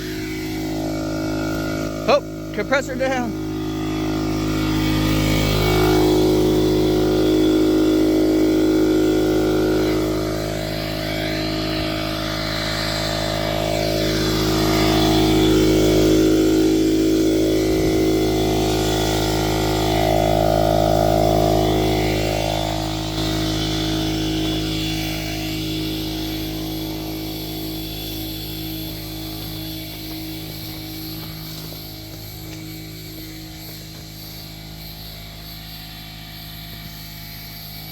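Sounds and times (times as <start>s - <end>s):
motor humming: 0.0s - 37.9s.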